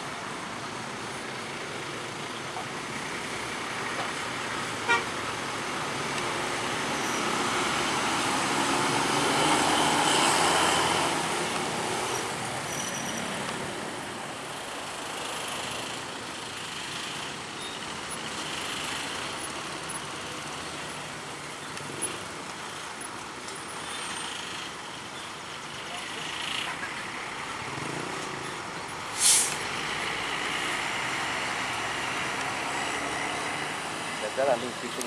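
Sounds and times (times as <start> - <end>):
bus driving past: 0.0 - 35.0
road traffic: 0.0 - 35.0.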